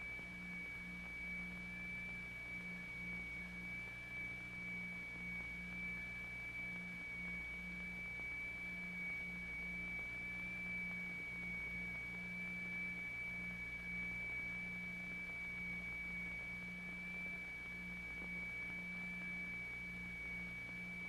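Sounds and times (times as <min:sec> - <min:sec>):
fainter second tone: 0:00.0 - 0:21.0.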